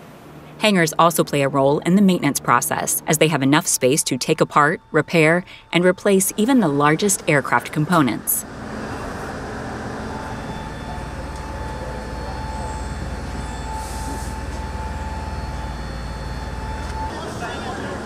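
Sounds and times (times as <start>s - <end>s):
machinery low rumble: 0.0s - 18.0s
thin steady whine: 0.0s - 18.0s.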